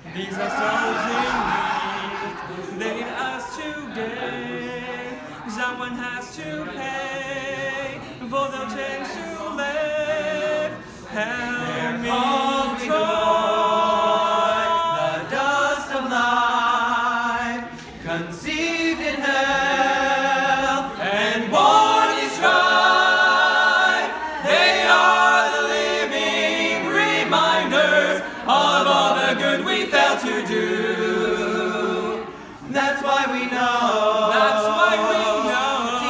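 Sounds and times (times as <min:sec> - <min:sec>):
male vocal quartet singing: 0:00.0 - 0:36.0.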